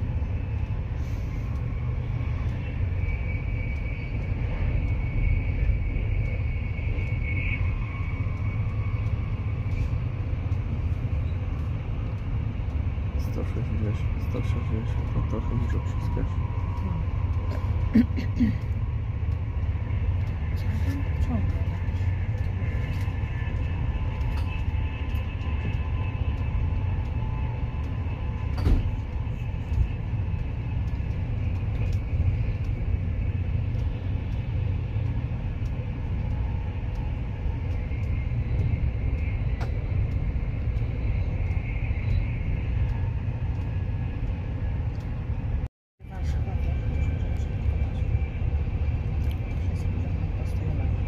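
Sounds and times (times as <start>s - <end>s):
train coach rumbling inside: 0.0s - 51.0s.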